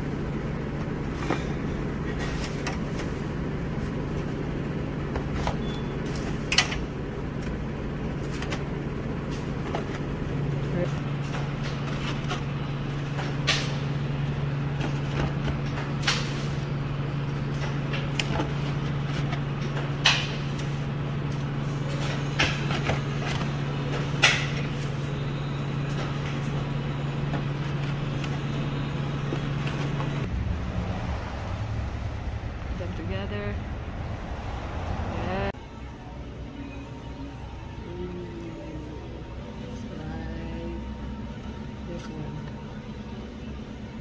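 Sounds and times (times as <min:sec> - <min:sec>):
shop equipment humming: 0:00.0 - 0:44.0.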